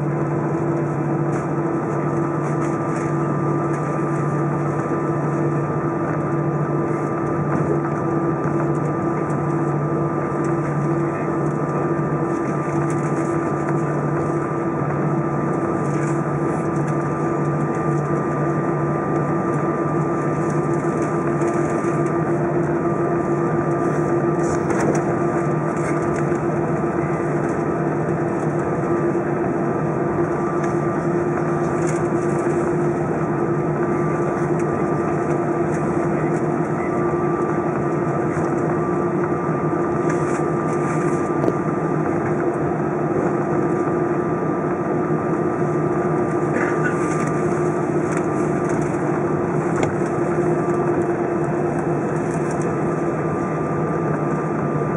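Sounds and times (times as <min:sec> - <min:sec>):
jet engine hum: 0:00.0 - 0:54.9.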